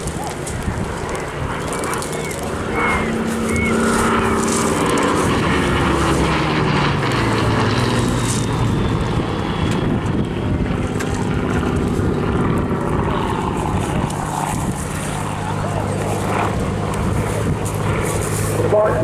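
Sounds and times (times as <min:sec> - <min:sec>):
propeller plane engine flying past: 0:00.0 - 0:19.0.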